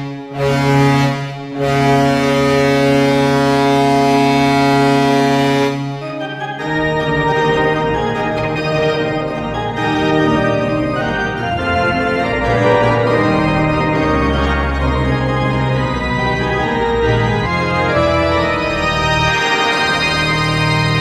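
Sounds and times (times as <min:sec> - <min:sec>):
organ music: 0:00.0 - 0:21.0.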